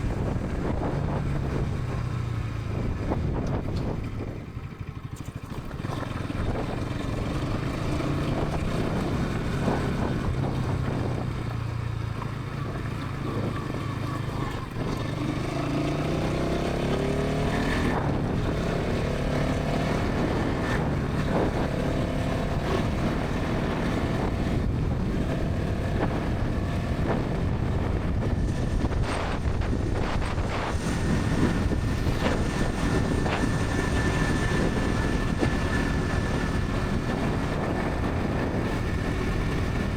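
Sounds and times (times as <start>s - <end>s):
motorcycle engine at speed: 0.0s - 39.9s
wind rushing over microphone: 0.0s - 39.9s.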